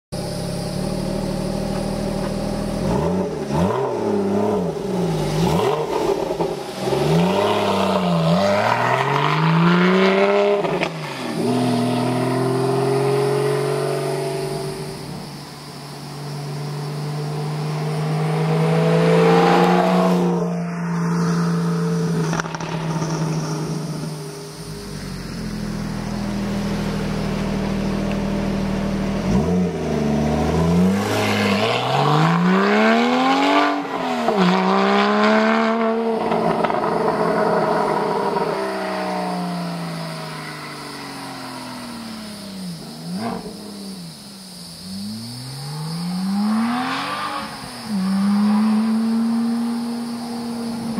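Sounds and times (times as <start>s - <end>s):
sports car passing: 0.6s - 43.9s, 44.9s - 50.9s
engine revving: 0.7s - 15.2s, 16.4s - 43.8s, 45.0s - 50.9s.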